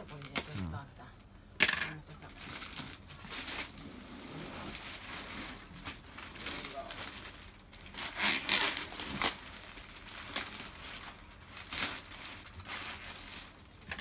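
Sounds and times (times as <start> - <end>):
plastic wrapping rustling: 0.0 - 0.9, 2.1 - 14.0.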